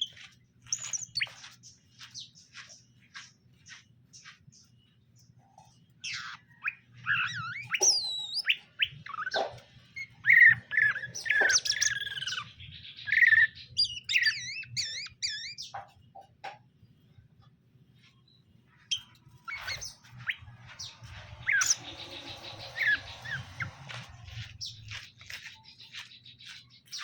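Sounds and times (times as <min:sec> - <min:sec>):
bird chirping and warbling: 0:00.0 - 0:16.4, 0:18.2 - 0:27.0.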